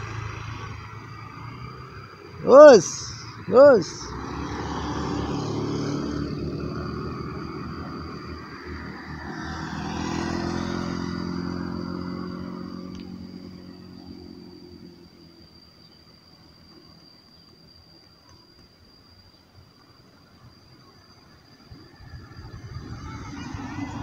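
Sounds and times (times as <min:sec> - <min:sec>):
road vehicles passing: 0:00.0 - 0:24.0.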